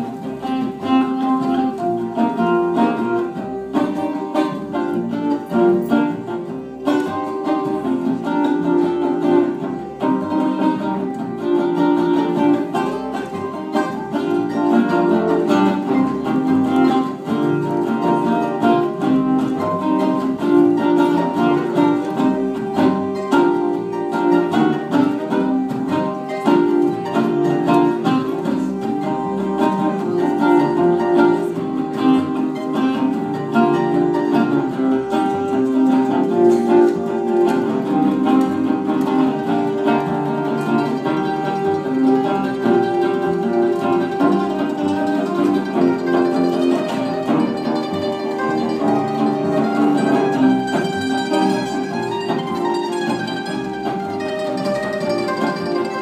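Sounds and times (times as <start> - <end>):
acoustic guitar instrumental: 0.0 - 56.0.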